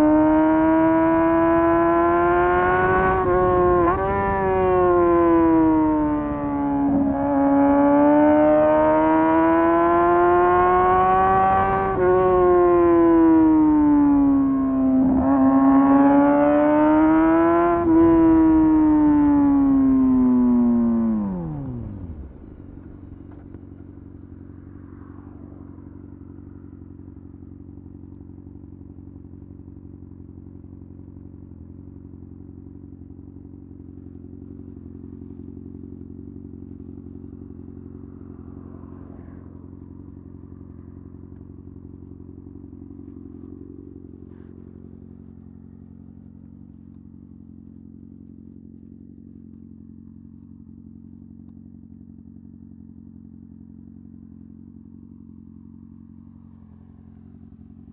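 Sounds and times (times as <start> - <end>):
motorcycle engine idling: 0.0 - 57.9
motorcycle engine revving through gears: 0.0 - 57.9.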